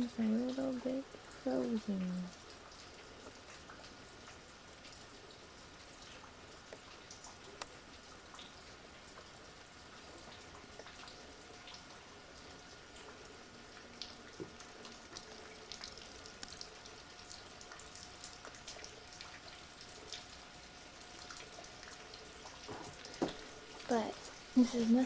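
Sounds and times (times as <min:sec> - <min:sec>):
faint steady hiss: 0:00.0 - 0:25.0
freezing rain dripping and ticking: 0:00.0 - 0:25.0.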